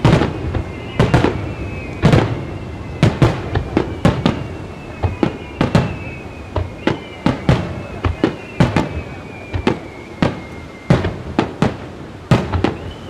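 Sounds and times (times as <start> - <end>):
faint falling whistle: 0.0 - 13.0
fireworks bursting: 0.0 - 13.0.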